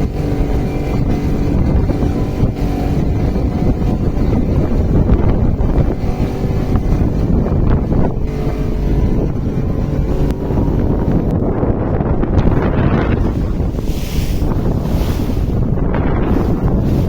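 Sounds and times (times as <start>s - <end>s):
vehicle engine hum: 0.0s - 17.0s
wind buffeting microphone: 0.0s - 17.0s.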